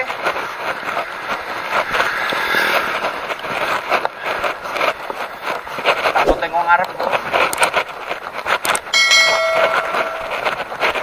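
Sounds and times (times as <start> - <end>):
bicycle tyres hissing on asphalt: 0.0 - 9.3
bicycle rattling: 0.0 - 11.0.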